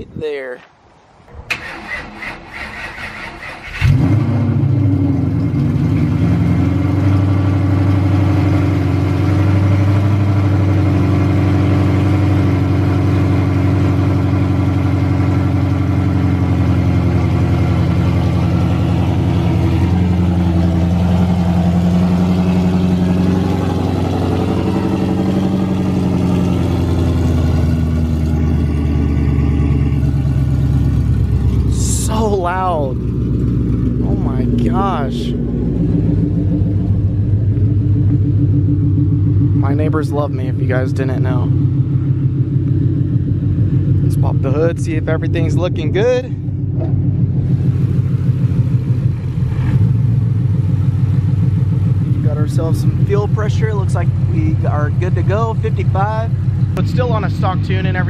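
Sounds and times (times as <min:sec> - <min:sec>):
engine loud fast idle: 0:01.3 - 0:04.2, 0:09.3 - 0:58.0.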